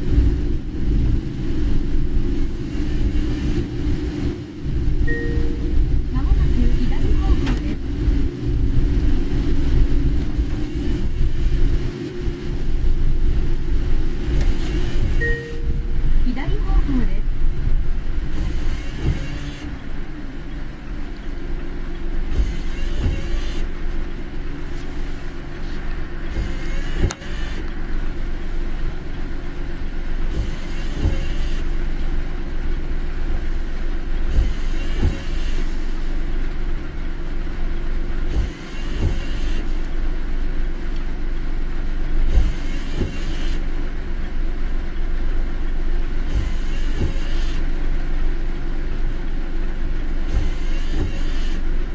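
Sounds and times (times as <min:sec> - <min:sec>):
windshield wipers swishing: 0:00.0 - 0:36.6, 0:38.2 - 0:39.8, 0:42.2 - 0:43.7, 0:46.1 - 0:47.7, 0:50.2 - 0:51.6
car road and engine rumble: 0:00.0 - 0:51.9.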